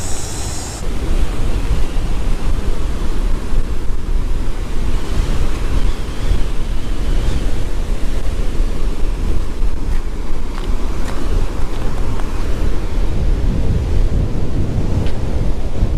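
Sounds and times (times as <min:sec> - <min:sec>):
high hiss: 0:00.0 - 0:13.0
surf breaking on beach: 0:00.0 - 0:15.9
wind buffeting microphone: 0:00.0 - 0:15.9.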